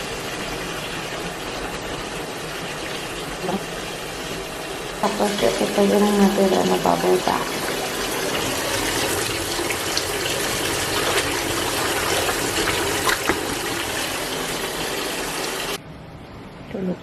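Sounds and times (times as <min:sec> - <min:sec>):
running water: 0:00.0 - 0:15.8.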